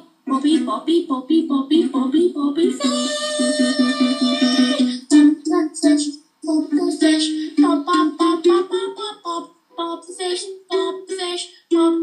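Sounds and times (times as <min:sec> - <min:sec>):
child singing: 0:00.4 - 0:12.0.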